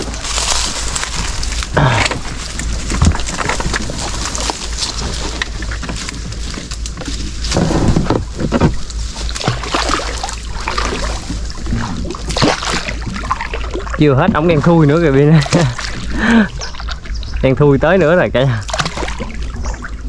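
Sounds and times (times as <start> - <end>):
water splashing around boat: 0.0 - 20.0.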